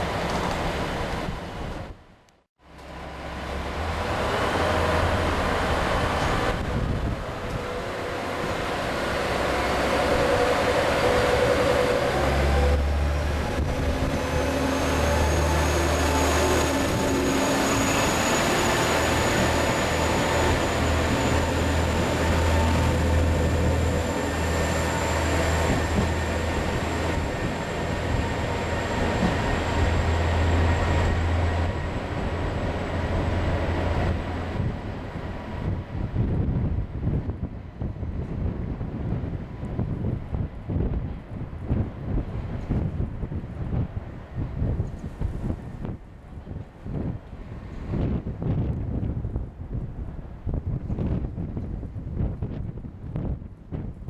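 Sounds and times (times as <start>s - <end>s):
train rumble: 0.0s - 54.0s
wind buffeting microphone: 3.6s - 54.0s.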